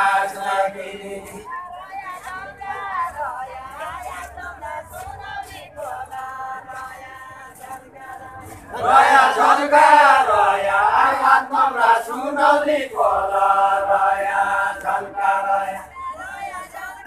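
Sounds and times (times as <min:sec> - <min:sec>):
group of voices singing folk song: 0:00.0 - 0:17.0.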